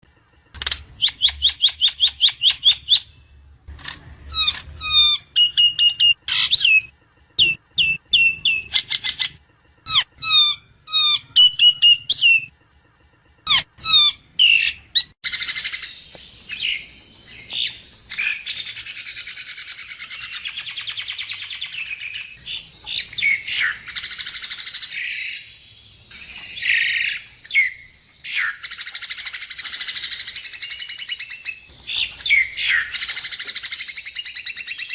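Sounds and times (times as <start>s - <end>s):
myna whistled notes and chirps: 1.0s - 3.2s, 4.4s - 12.5s, 13.4s - 34.9s.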